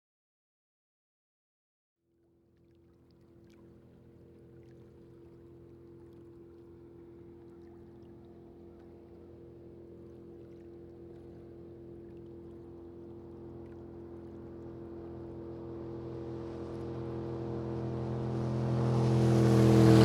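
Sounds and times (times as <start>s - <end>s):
faint water splashes: 2.4s - 20.0s
boat engine humming: 2.6s - 20.0s.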